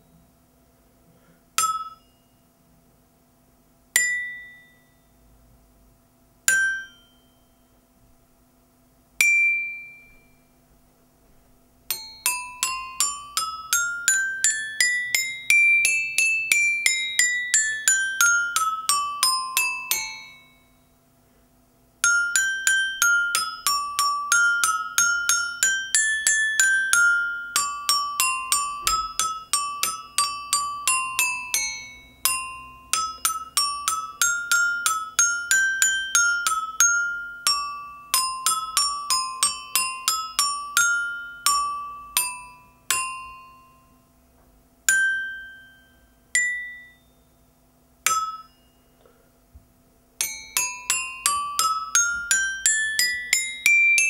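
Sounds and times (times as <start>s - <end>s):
toy glockenspiel notes: 1.6s - 2.5s, 3.9s - 5.3s, 6.5s - 7.8s, 9.2s - 10.6s, 11.9s - 21.0s, 22.0s - 44.3s, 44.9s - 49.1s, 50.2s - 54.0s.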